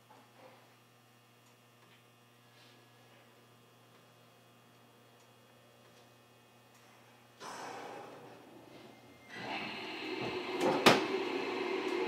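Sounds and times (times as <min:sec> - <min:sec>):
train electrical whine and hum: 0:00.0 - 0:12.0.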